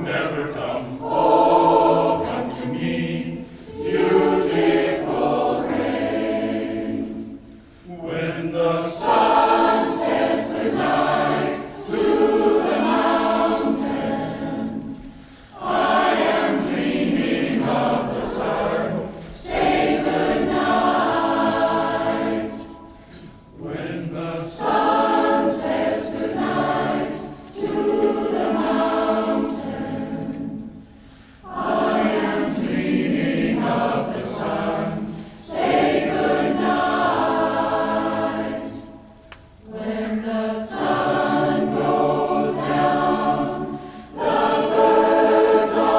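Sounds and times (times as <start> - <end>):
choir singing in harmony: 0.0 - 45.9.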